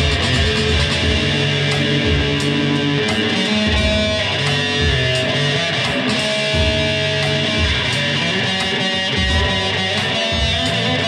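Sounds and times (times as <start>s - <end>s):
electric guitar melody: 0.0s - 11.0s.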